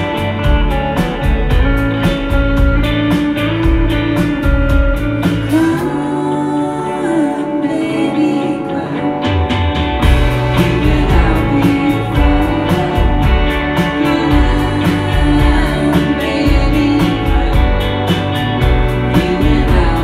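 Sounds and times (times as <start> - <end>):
drums with hi-hat beat: 0.0 - 5.9, 9.2 - 20.0
rock band playing: 0.0 - 6.1, 8.6 - 20.0
held guitar and synth chords: 0.0 - 20.0.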